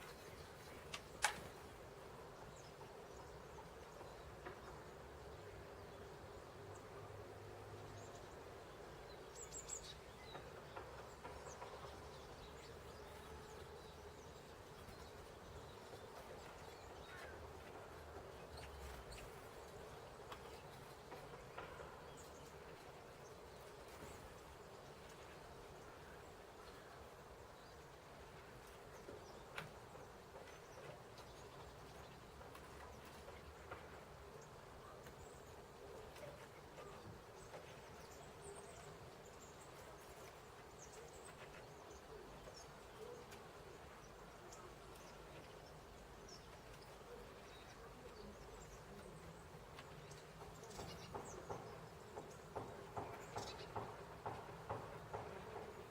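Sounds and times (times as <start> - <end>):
small birds chirping: 0.0 - 55.9
steady low hiss: 0.0 - 55.9.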